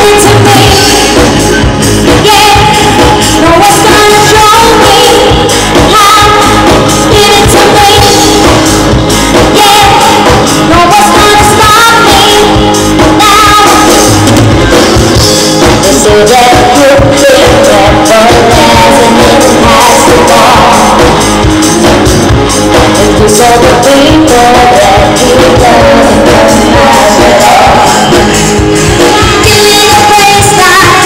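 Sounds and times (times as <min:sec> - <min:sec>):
pop music with singer: 0:00.0 - 0:31.0.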